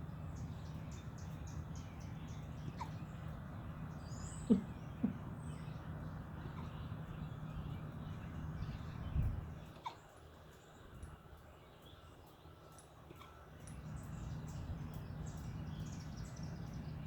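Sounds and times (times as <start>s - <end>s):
steady low hum: 0.0s - 9.8s, 10.5s - 17.0s.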